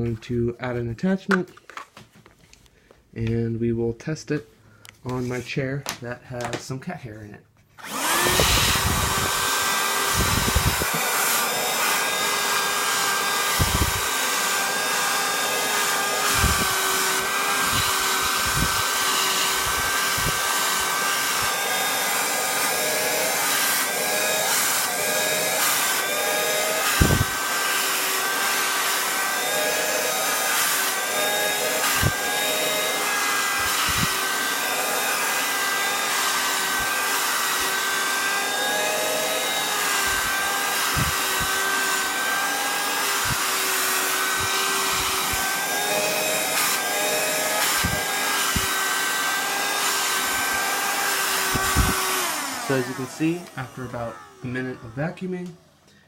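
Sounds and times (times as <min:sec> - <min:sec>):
handheld vacuum cleaner whine: 0:07.8 - 0:55.1.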